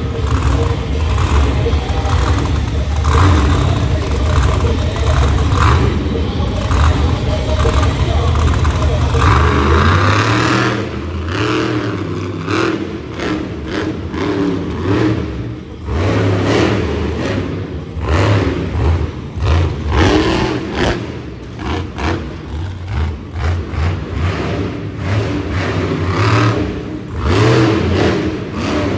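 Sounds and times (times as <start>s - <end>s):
truck engine revving hard: 0.0s - 28.9s.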